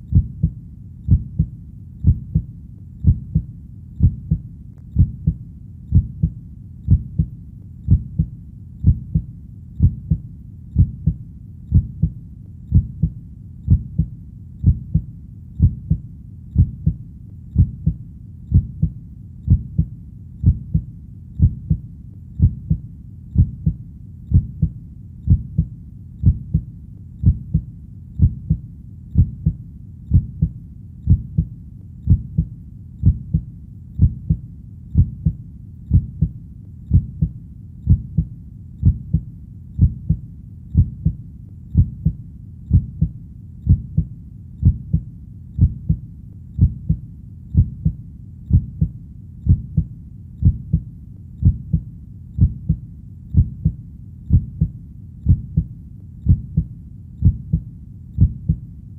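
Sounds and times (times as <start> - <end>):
heartbeat double thumps: 0.0 - 34.4, 35.0 - 58.7
faint low rumble: 0.0 - 58.9.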